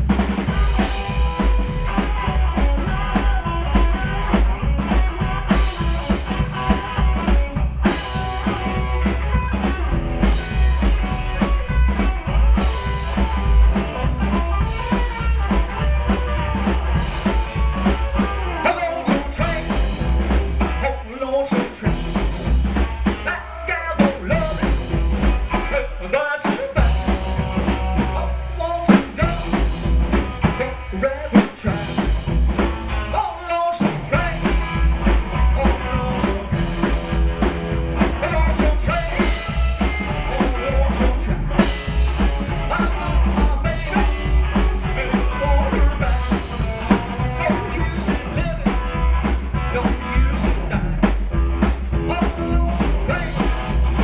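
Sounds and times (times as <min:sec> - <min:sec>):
bass drum and rimshots: 0:00.0 - 0:54.0
rock and roll band playing: 0:00.0 - 0:54.0.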